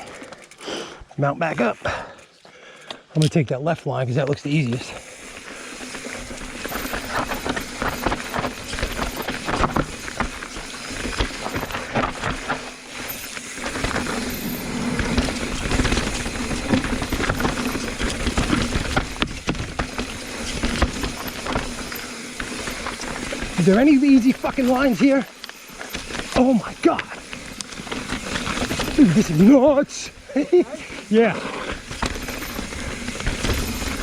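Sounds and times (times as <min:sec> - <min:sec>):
bike tyres rolling over rocks: 0:00.0 - 0:01.7, 0:04.0 - 0:34.0
bike rattling and knocking: 0:04.7 - 0:34.0.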